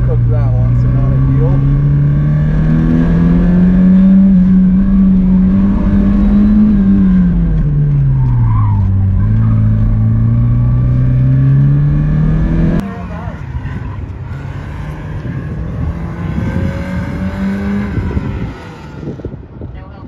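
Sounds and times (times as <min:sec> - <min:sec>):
car engine revving hard: 0:00.0 - 0:08.1, 0:08.8 - 0:13.4, 0:14.3 - 0:19.2.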